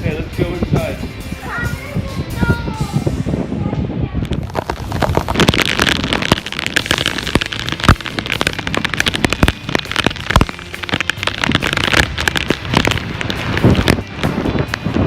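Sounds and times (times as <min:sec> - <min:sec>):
heavy rain in strong wind: 0:00.0 - 0:15.0.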